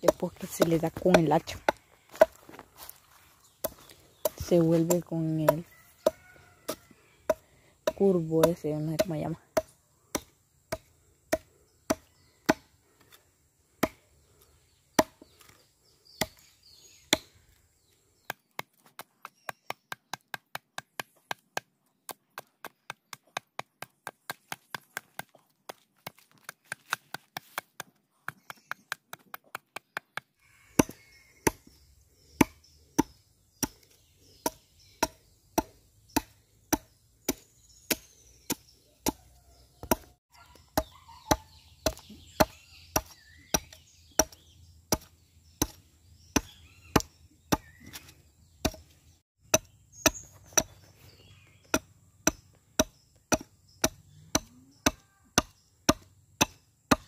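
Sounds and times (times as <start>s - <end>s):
adze chopping into wood: 3.6s - 12.7s, 15.0s - 15.3s, 18.2s - 31.8s, 32.4s - 40.2s, 40.8s - 48.9s, 49.5s - 50.8s, 51.6s - 57.0s.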